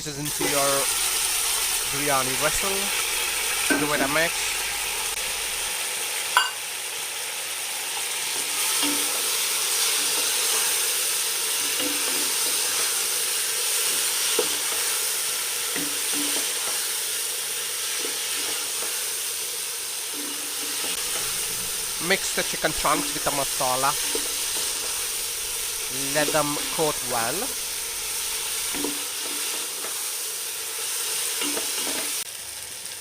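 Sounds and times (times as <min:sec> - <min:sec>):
chicken sizzling in pan: 0:00.1 - 0:33.0.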